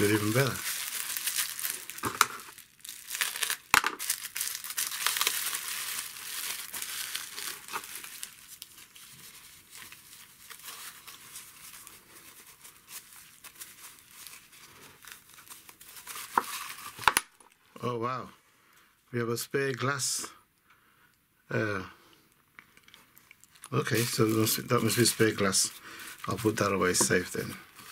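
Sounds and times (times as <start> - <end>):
bubble wrap crinkling: 0.0 - 17.6, 22.6 - 27.9.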